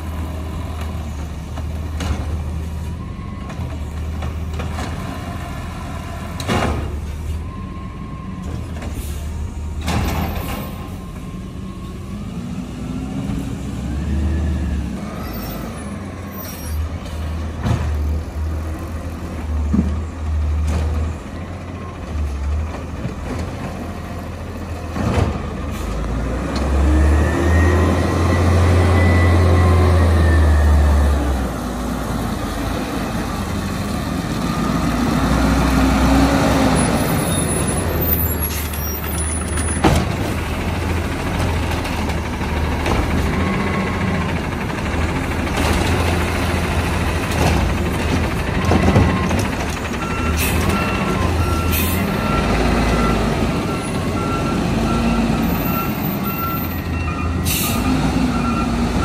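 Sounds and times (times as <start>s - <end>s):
garbage truck engine rumbling: 0.0s - 59.0s.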